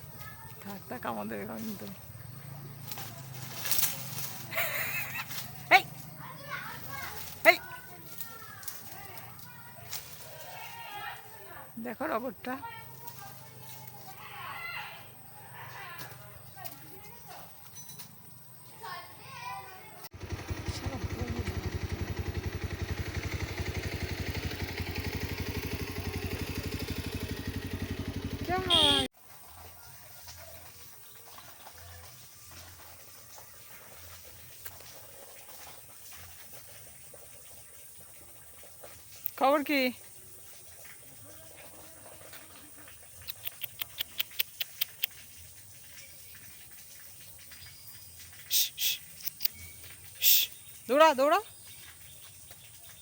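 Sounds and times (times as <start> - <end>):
small engine chugging: 0.0 - 53.0.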